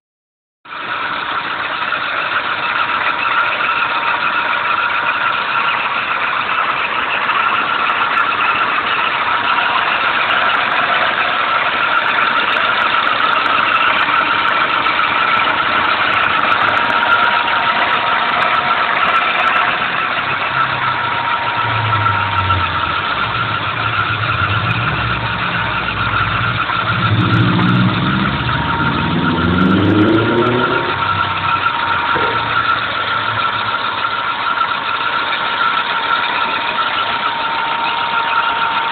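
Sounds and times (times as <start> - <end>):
car engine running: 0.7 - 38.9
engine revving: 2.4 - 38.9
high-pitched whine: 6.1 - 38.9.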